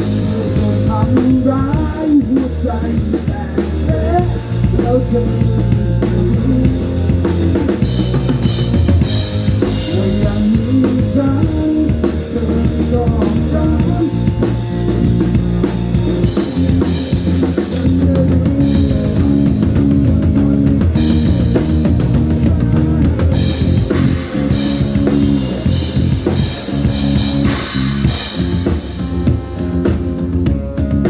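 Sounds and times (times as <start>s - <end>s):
bass drum: 0.0s - 31.0s
electric guitar: 0.0s - 31.0s
rock band playing live: 0.0s - 31.0s.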